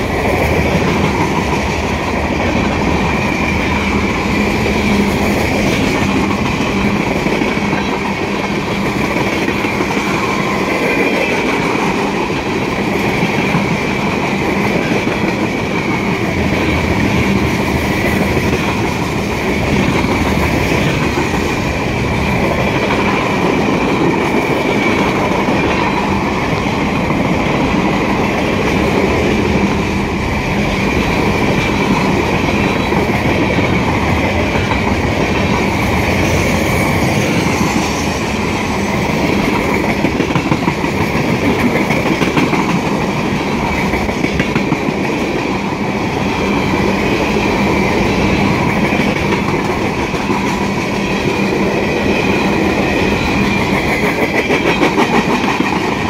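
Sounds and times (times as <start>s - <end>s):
freight train wheels clacking on rails: 0.0s - 56.0s.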